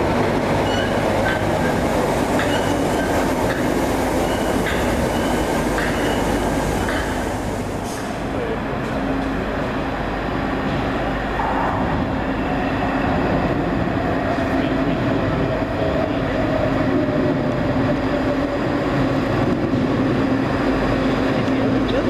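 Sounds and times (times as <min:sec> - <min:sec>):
train rumbling and humming: 0:00.0 - 0:22.0.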